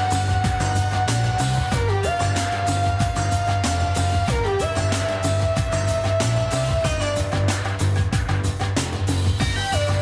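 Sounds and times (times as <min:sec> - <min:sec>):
music with beat and bass: 0:00.0 - 0:10.0.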